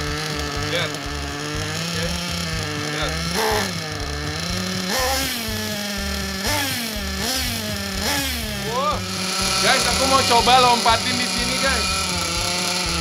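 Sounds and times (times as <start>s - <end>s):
small fuel engine idling and revving: 0.0s - 13.0s.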